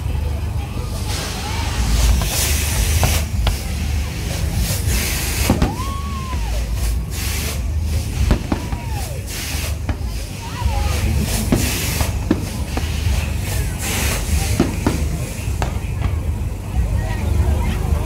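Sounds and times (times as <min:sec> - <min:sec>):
low rumble: 0:00.0 - 0:18.0
fireworks bangs and crackling: 0:00.8 - 0:17.5
firework whistle: 0:01.1 - 0:16.3.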